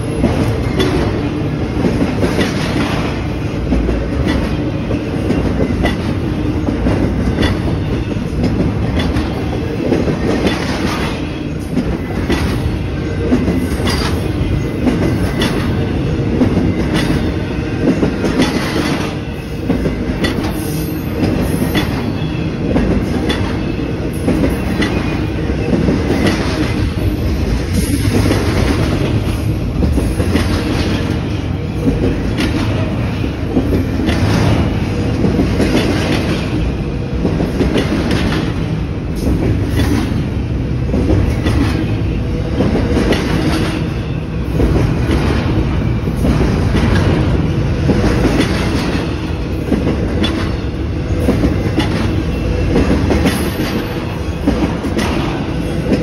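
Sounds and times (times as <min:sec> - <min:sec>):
rumble of wheels on rail: 0:00.0 - 0:56.0
wheels clickety-clack over rail joints: 0:00.0 - 0:56.0.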